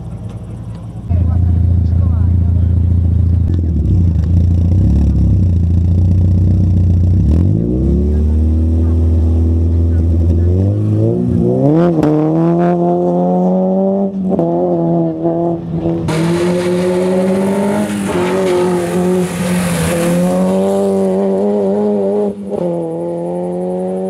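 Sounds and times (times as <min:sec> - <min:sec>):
car engine revving with gear changes: 0:00.0 - 0:24.0.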